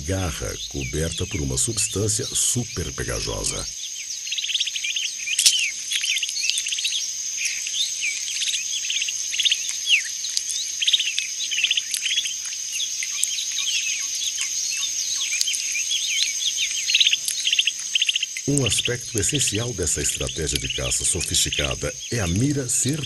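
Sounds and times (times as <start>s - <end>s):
high insect trill: 0.0s - 23.0s.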